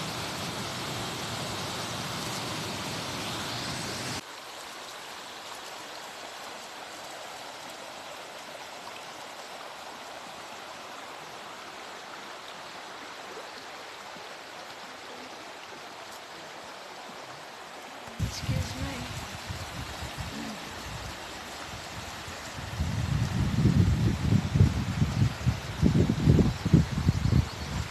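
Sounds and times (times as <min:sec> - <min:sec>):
river water rushing: 0:00.0 - 0:26.3.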